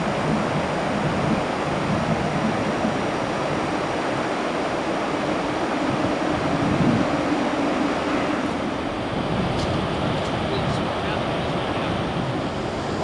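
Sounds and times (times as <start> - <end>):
rushing wind: 0.0 - 13.0.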